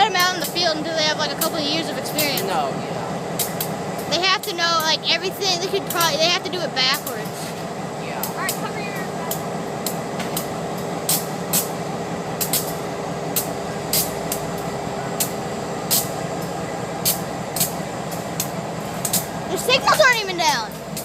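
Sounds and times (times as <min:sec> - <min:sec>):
train rumble and hiss: 0:00.0 - 0:21.0
wheels clicking over rail joints: 0:00.0 - 0:21.0.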